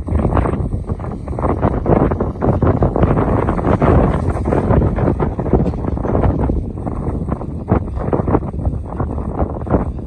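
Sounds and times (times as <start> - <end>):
tractor diesel engine running: 0.0 - 10.0
wind buffeting microphone: 0.0 - 10.0.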